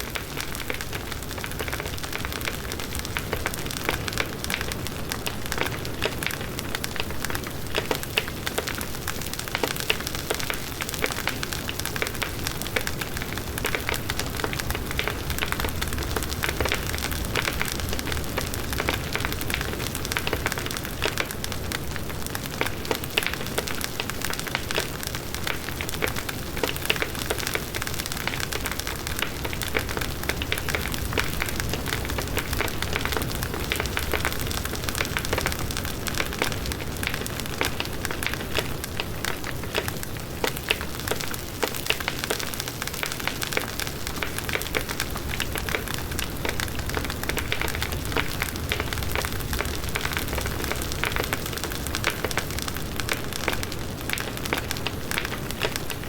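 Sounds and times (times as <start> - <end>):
burning wood crackling and popping: 0.0 - 56.0
low rumble of flames: 0.1 - 56.0.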